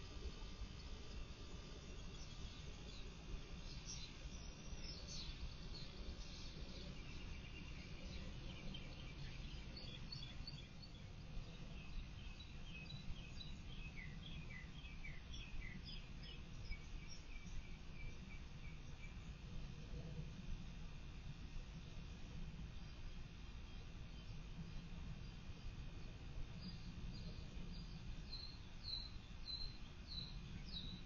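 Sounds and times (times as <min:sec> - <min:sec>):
birds chirping: 0:00.5 - 0:19.3, 0:23.6 - 0:31.0.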